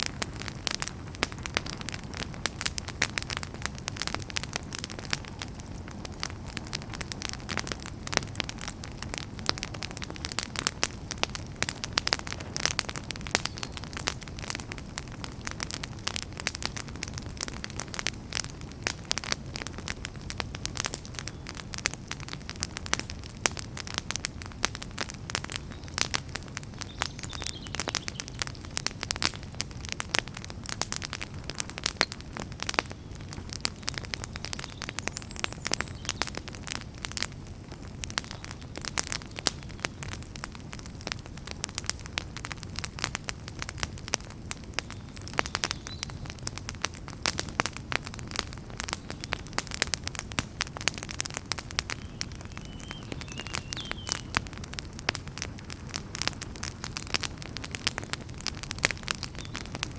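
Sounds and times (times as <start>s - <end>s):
campfire crackling and popping: 0.0s - 59.9s
low rumble of flame: 0.0s - 59.9s.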